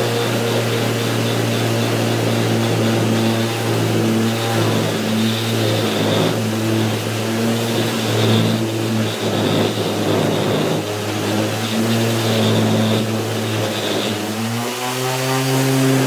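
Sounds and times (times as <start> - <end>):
orbital sander sanding wood: 0.0 - 16.0.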